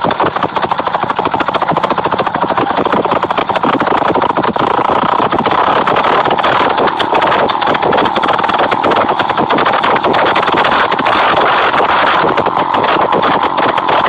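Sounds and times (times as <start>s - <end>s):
unmuffled moped engine crackle: 0.0s - 14.0s.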